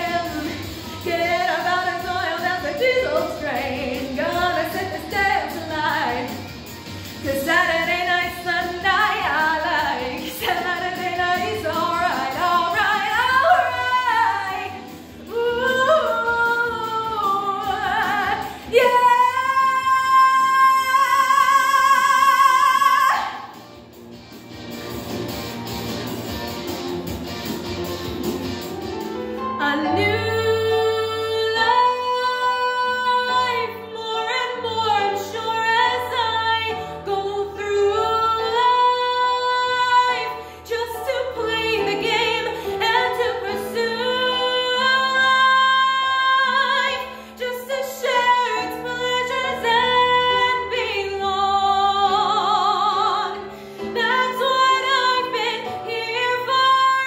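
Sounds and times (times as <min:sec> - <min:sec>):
woman singing: 0:00.0 - 0:06.4, 0:07.2 - 0:23.6, 0:29.5 - 0:57.0
instrumental backing track: 0:00.0 - 0:57.0.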